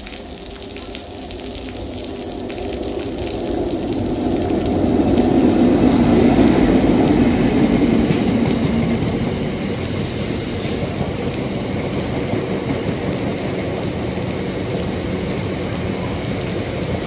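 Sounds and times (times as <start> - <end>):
heavy rain hissing: 0.0 - 17.0
diesel locomotive passing: 1.2 - 17.0.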